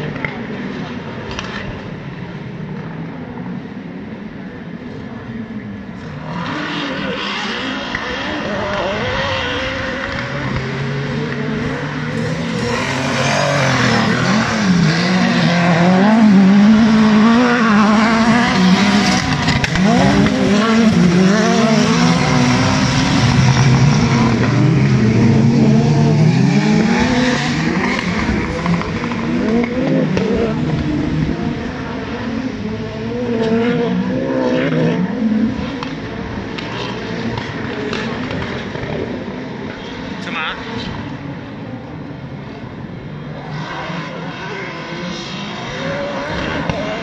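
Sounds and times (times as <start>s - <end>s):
racing car engines revving: 0.0s - 47.0s.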